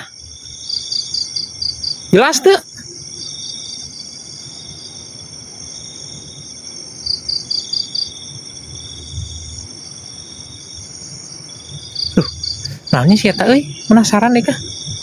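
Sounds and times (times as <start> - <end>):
louder cricket chirps: 0.0 - 15.0
night insects chirring: 0.0 - 15.0.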